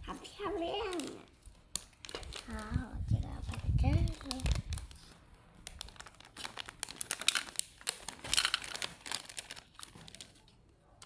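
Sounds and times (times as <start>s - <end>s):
plastic bags crinkling: 0.4s - 10.7s.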